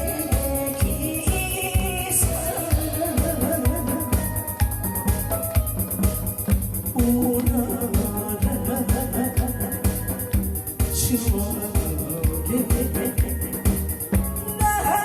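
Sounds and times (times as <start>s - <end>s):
trot song with drum beat: 0.0s - 15.0s.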